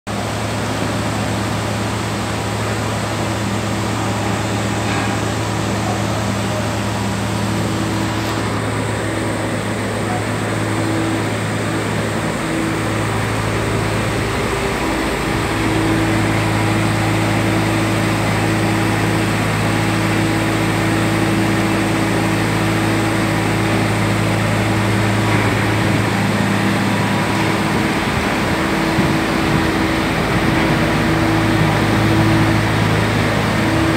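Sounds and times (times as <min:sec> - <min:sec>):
industrial machinery humming: 0:00.1 - 0:33.9.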